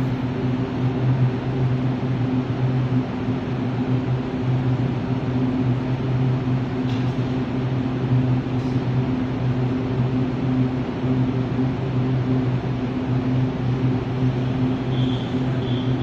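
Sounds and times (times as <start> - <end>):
train humming drone: 0.0 - 16.0.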